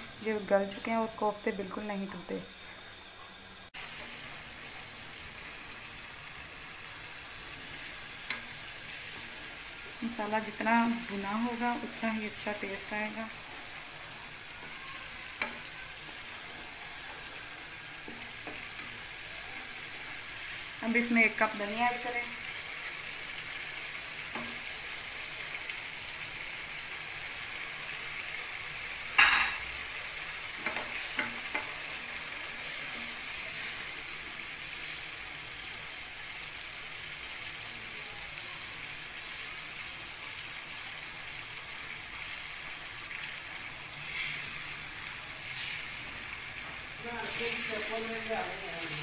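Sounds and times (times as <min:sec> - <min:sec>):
masala sizzling in frying pan: 0:00.0 - 0:49.0.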